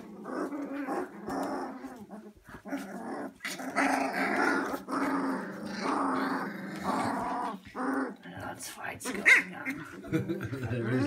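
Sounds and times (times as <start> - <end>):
puppies growling: 0.0 - 11.0.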